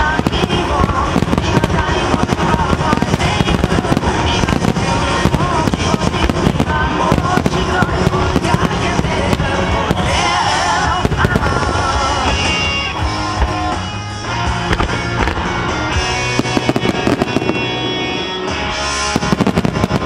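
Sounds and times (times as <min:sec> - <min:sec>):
fireworks bursting and crackling: 0:00.0 - 0:20.0
music: 0:00.0 - 0:20.0.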